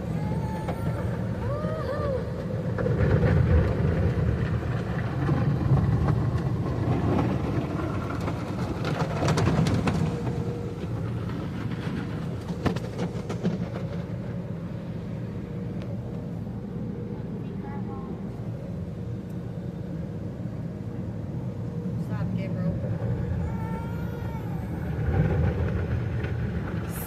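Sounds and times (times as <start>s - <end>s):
car wash machinery rumble: 0.0s - 27.0s.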